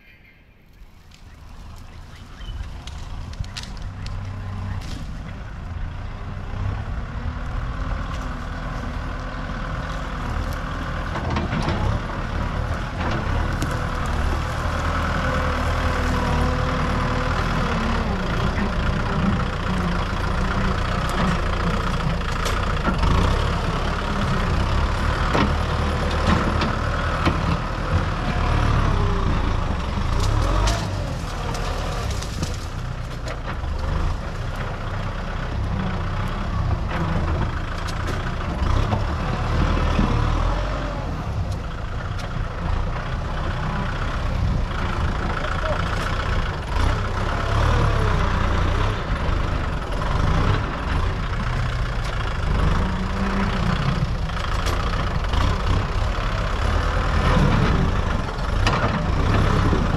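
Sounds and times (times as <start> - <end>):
diesel earthmover engine working: 0.1 - 59.9.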